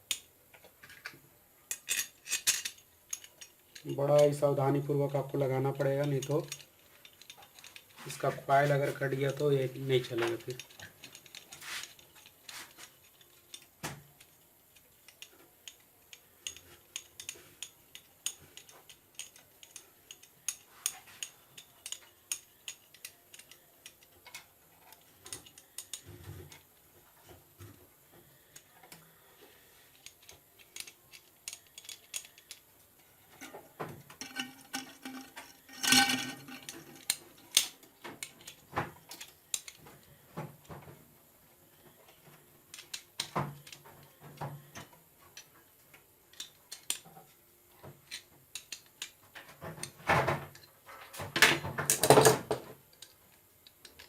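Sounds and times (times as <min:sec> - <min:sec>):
small metal parts clicking: 0:00.0 - 0:26.8, 0:29.9 - 0:40.2, 0:42.1 - 0:47.2, 0:48.0 - 0:49.2, 0:51.9 - 0:54.0.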